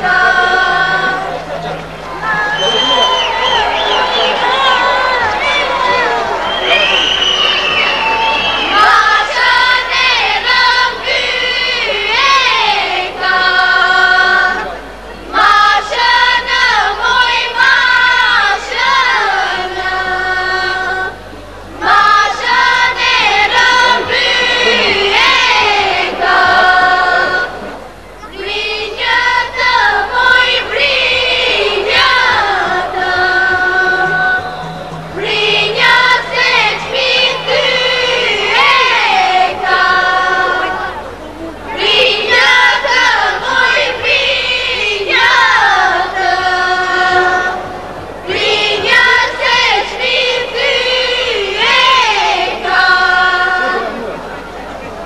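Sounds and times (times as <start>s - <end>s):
group singing folk song: 0.0s - 54.3s.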